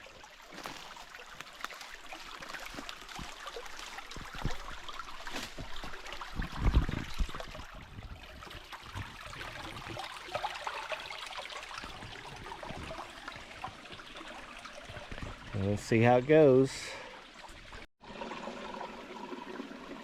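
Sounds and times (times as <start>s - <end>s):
creek running over rocks: 0.0s - 20.0s.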